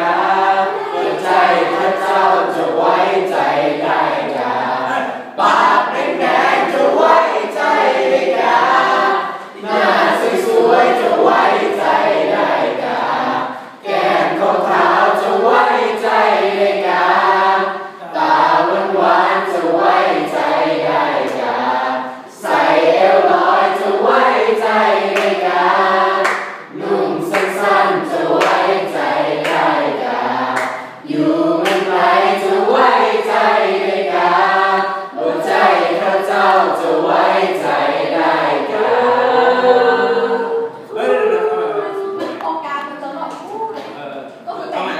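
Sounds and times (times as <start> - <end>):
choir singing in parts: 0.0 - 42.4.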